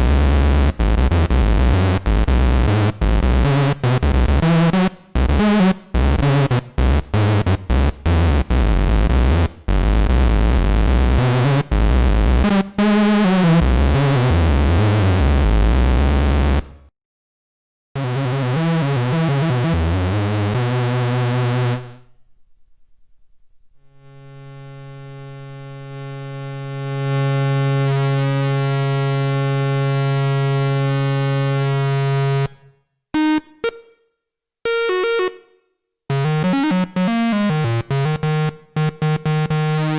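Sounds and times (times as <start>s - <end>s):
analogue synthesizer notes: 0.0s - 16.8s, 18.0s - 32.4s, 36.1s - 39.9s.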